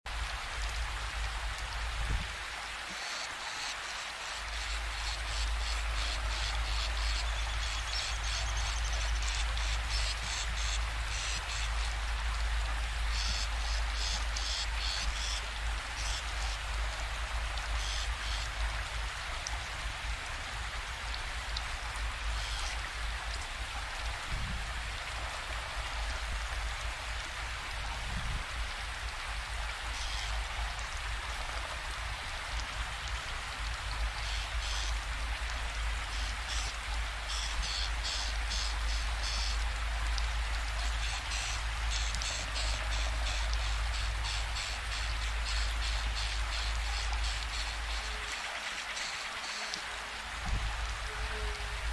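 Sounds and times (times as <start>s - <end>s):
rain-like hiss: 0.1s - 51.9s.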